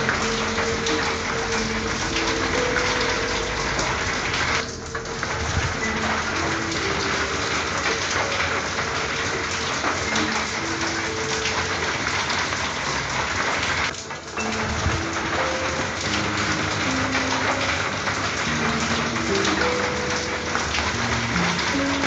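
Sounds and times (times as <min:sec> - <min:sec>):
rain on a tin roof: 0:00.0 - 0:22.0.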